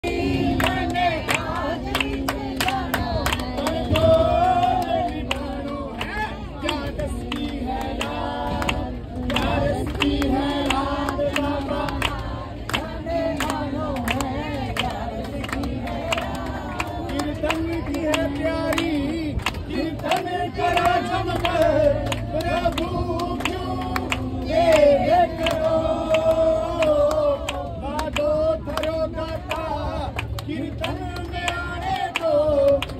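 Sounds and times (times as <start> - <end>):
group singing devotional song: 0.0 - 32.9
hands clapping in time: 0.2 - 32.9.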